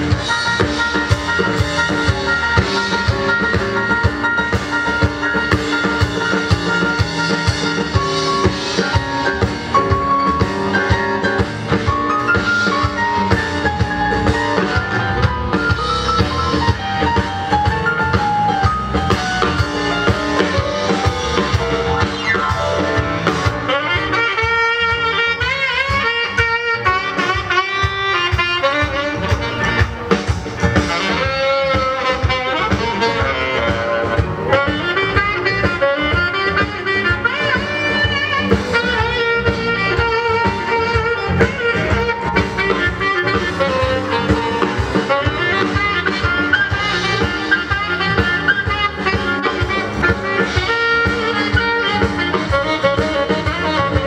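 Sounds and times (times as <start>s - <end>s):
drum kit beat: 0.0s - 54.0s
lead melody with heavy vibrato: 0.0s - 54.0s
soul band playing: 0.0s - 54.0s.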